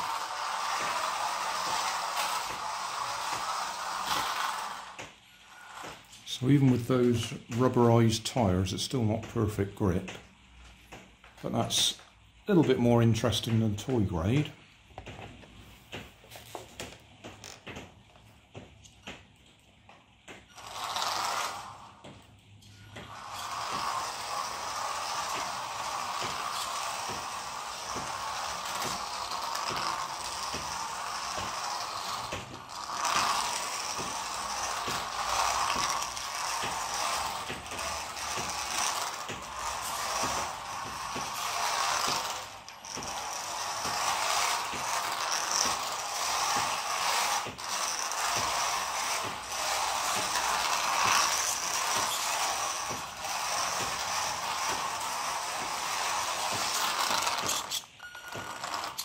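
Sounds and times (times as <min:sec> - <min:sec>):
toy car motor whirring: 0:00.0 - 0:08.8, 0:19.5 - 0:59.0.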